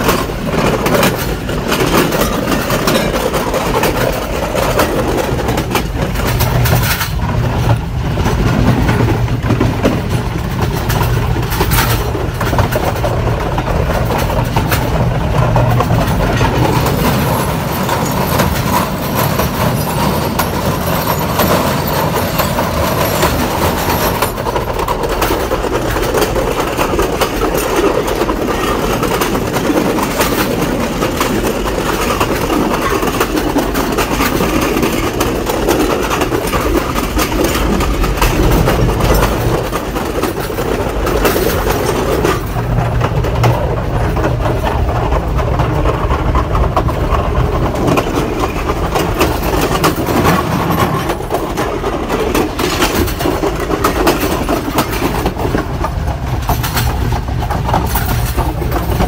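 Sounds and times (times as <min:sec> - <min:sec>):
wheels clacking over rails: 0:00.0 - 0:59.0.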